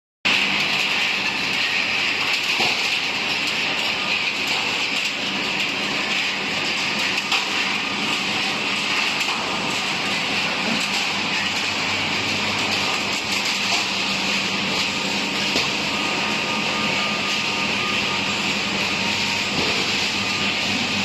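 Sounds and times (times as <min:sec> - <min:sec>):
tube mill hissing clatter: 0:00.4 - 0:21.0.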